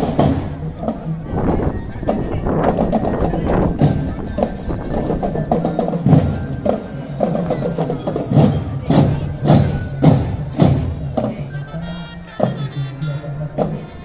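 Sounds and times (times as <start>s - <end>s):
marching drum band playing: 0.0s - 14.0s.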